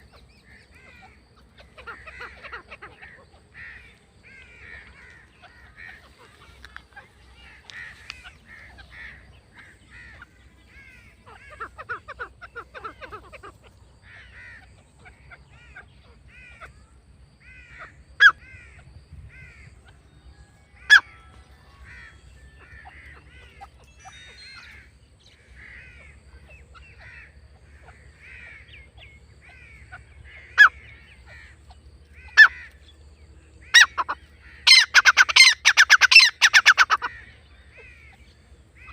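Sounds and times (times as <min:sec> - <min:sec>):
francolin calls: 0:00.0 - 0:38.9.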